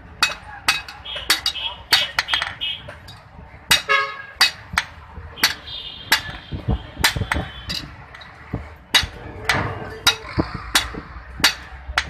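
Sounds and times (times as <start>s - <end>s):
hammer striking iron on anvil: 0.1s - 3.1s, 3.7s - 8.3s, 8.9s - 12.0s.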